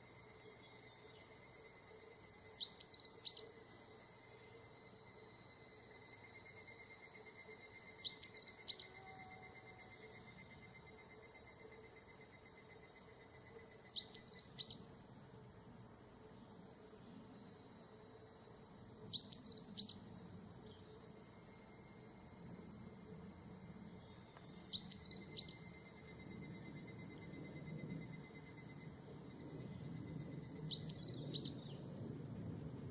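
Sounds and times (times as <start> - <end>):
high insect drone: 0.0 - 32.9
evening cicadas calling: 0.2 - 31.9.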